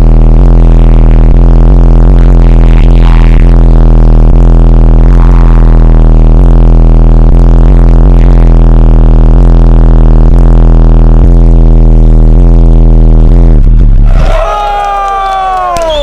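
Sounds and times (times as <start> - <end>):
distorted deep subwoofer bass tone: 0.0 - 16.0.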